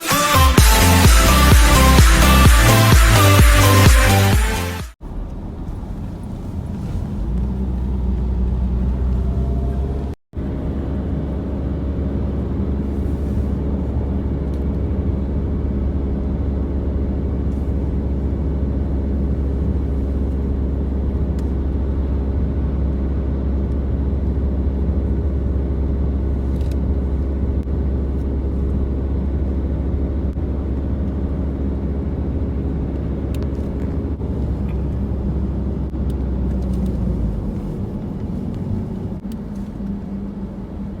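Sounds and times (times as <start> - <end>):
low engine rumble: 0.0 - 41.0
continuous hum: 5.0 - 41.0.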